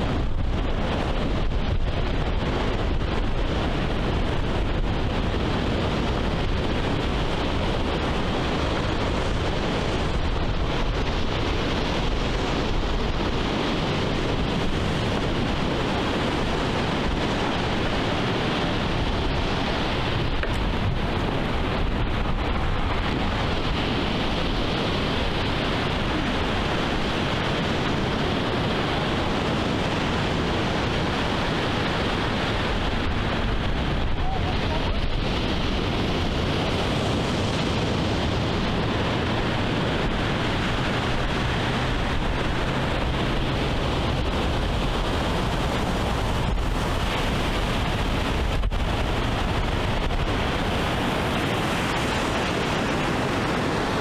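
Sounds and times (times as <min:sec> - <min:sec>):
ocean surf: 0:00.0 - 0:54.0
steady wind: 0:00.0 - 0:54.0
wind rumble on microphone: 0:00.0 - 0:54.0.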